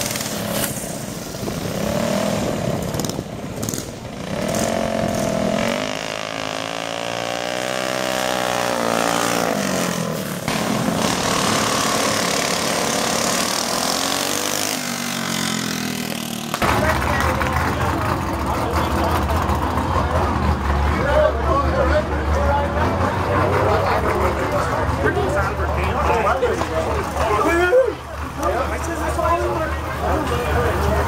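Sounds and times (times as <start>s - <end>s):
minibike engines revving: 0.0s - 31.0s.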